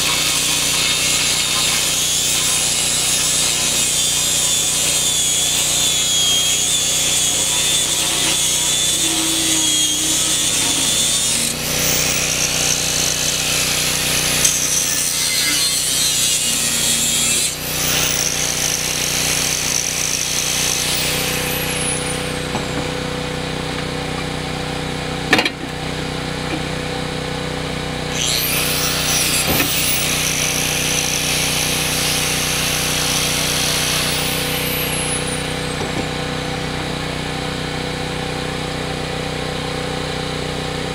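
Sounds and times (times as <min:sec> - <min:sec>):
angle grinder cutting metal: 0:00.0 - 0:23.4, 0:28.1 - 0:37.6.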